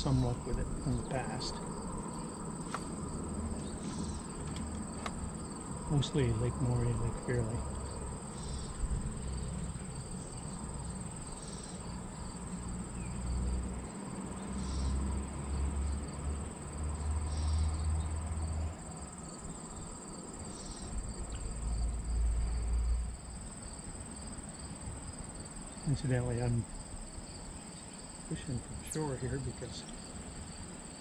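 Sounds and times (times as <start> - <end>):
crickets trilling: 0.0 - 31.0
short insect call: 0.0 - 31.0.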